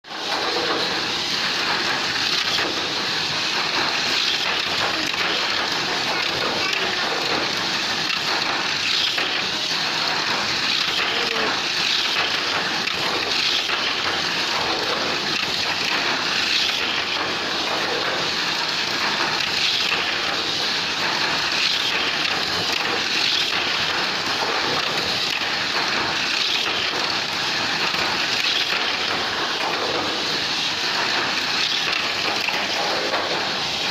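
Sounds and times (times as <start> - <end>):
wheels rattling on plastic track: 0.1 - 33.9
toy race cars whirring: 0.3 - 33.9.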